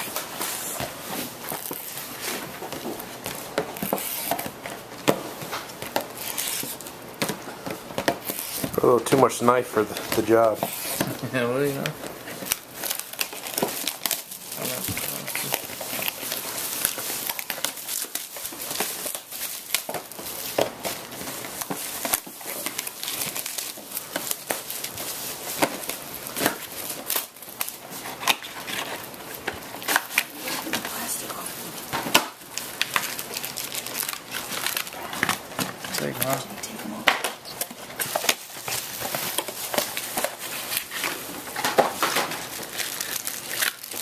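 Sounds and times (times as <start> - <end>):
card packs rustling: 0.0 - 44.0
shrink-wrap crinkling and tearing: 0.0 - 44.0.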